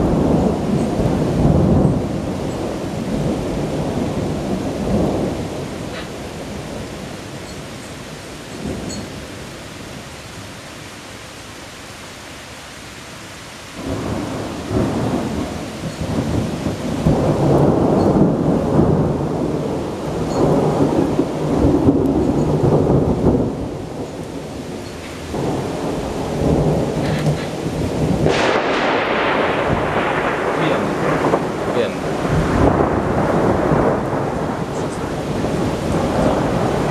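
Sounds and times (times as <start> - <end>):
crackling thunder peal: 0.0 - 7.6, 13.8 - 36.9
rolling thunder: 0.0 - 10.1, 13.8 - 36.9
steady rain: 0.0 - 36.9.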